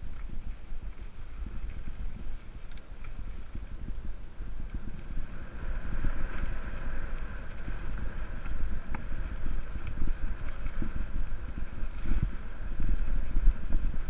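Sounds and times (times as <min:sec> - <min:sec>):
mountain bike rumbling and rattling: 0:00.0 - 0:14.0
wind buffeting microphone: 0:00.0 - 0:14.0.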